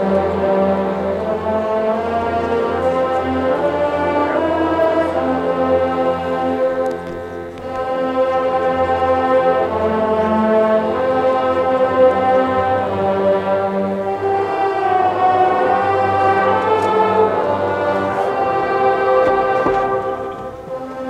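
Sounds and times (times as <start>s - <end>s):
marching band brass chords: 0.0s - 21.0s.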